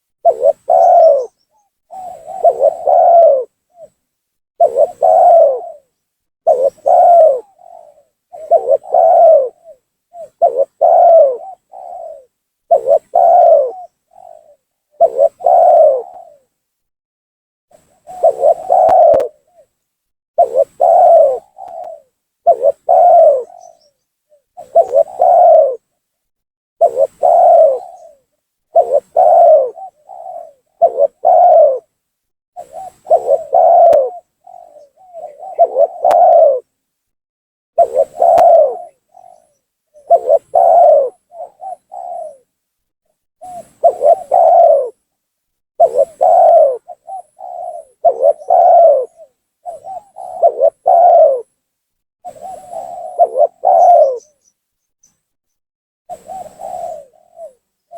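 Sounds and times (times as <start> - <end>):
dove cooing: 0.0 - 4.0, 4.6 - 16.5, 17.7 - 19.8, 20.4 - 25.9, 26.8 - 31.9, 32.6 - 36.7, 37.8 - 42.6, 43.4 - 45.1, 45.8 - 51.6, 52.2 - 54.5, 56.1 - 57.9.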